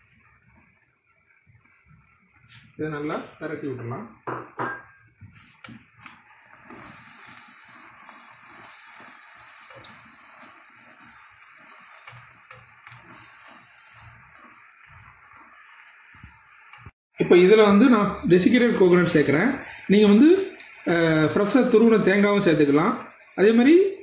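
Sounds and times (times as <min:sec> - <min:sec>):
food sizzling in a frying pan: 0:00.0 - 0:24.0
spatula scraping and knocking pan: 0:04.2 - 0:24.0.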